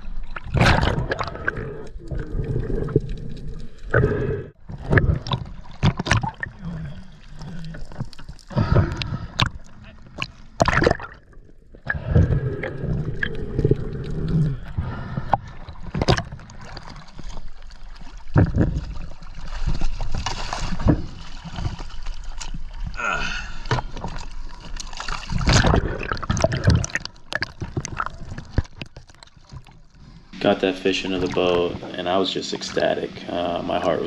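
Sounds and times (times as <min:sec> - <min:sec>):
water splashing and gurgling: 0:00.0 - 0:34.0.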